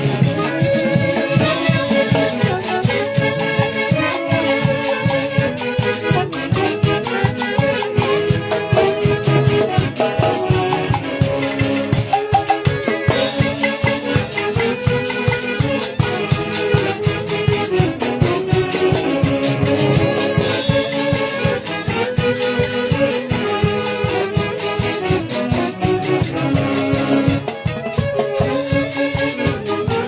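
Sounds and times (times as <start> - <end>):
fast percussion beat: 0.0 - 30.0.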